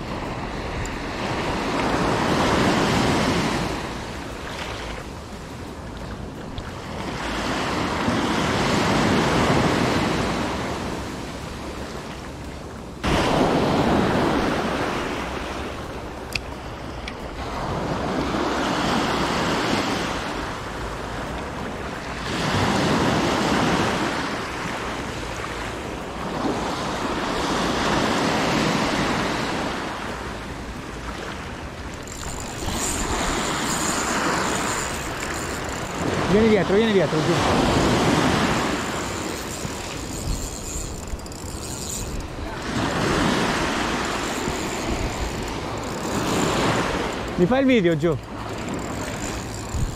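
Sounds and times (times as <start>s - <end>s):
small waves breaking on shore: 0.0s - 41.2s, 41.8s - 49.9s.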